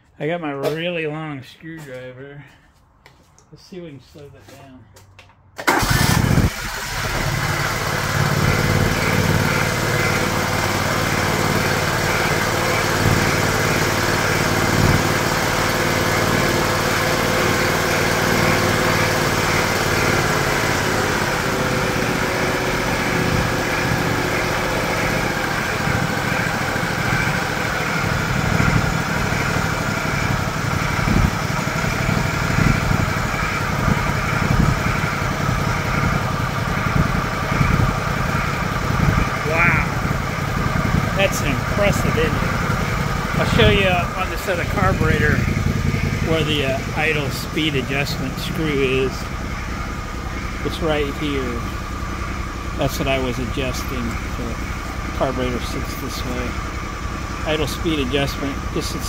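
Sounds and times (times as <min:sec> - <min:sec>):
riding mower engine running: 0:05.6 - 0:59.0.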